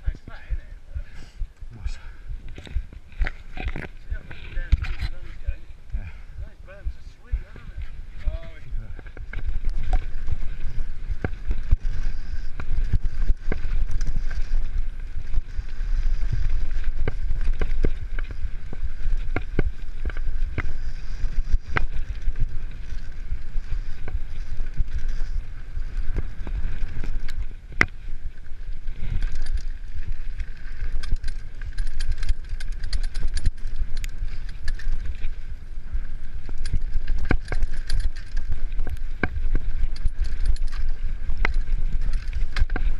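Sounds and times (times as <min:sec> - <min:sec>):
wind and tyre rumble: 0:00.0 - 0:42.9
bike rattling over bumps: 0:02.3 - 0:42.9.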